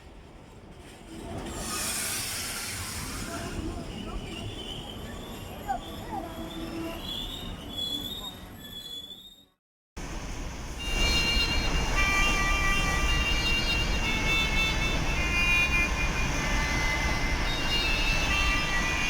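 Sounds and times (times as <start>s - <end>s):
train rumbling: 0.0s - 8.9s, 10.0s - 19.0s.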